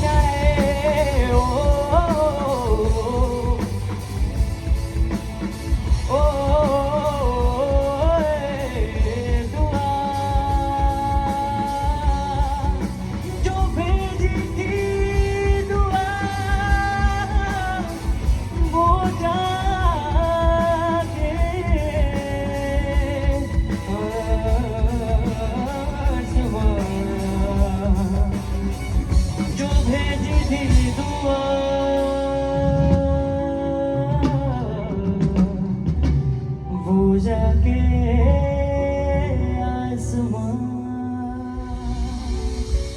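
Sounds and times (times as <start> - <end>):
steady drum beat: 0.0 - 36.9, 41.6 - 42.9
gliding melodic lead: 0.0 - 42.9.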